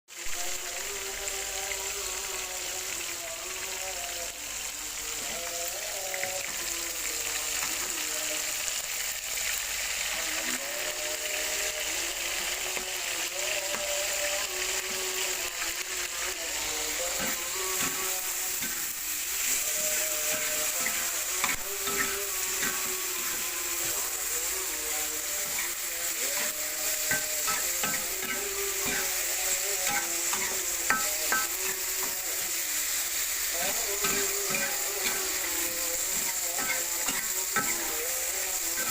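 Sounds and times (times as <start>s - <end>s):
fish sizzling in hot oil: 0.1s - 38.9s.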